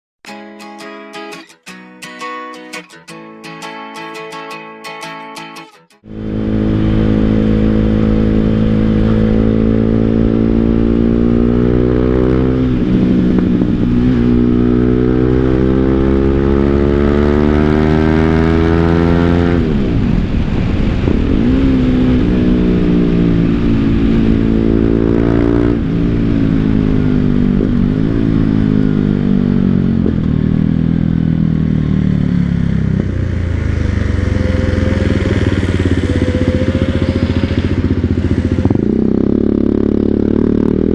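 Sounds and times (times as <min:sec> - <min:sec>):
motorcycle engine revving: 0:06.0 - 0:40.9.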